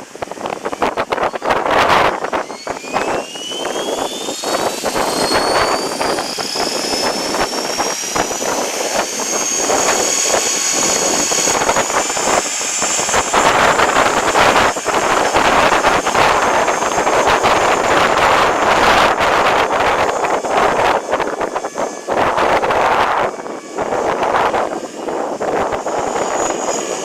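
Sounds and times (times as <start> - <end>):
rc helicopter motor whine: 0.0 - 27.0
wind buffeting microphone: 0.0 - 27.0.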